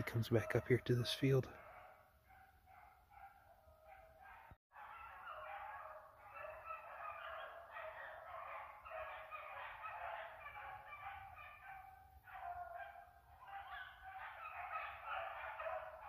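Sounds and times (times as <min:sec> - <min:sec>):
distant dogs baying: 0:00.0 - 0:16.0.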